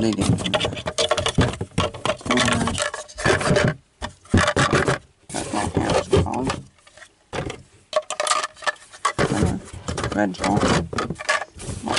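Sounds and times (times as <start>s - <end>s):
plastic toys scraping cardboard box: 0.0s - 7.1s, 8.2s - 11.9s.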